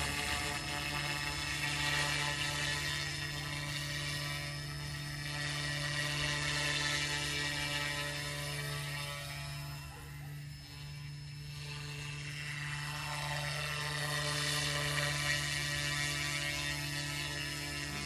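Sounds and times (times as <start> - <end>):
rc helicopter hovering whine: 0.0 - 18.0.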